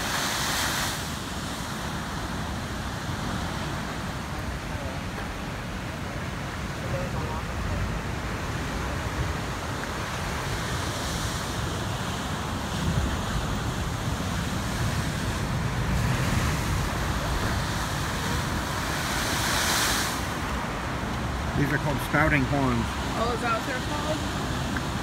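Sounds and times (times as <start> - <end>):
ocean surf breaking over rocks: 0.0 - 25.0
wind rumbling on microphone: 0.0 - 25.0.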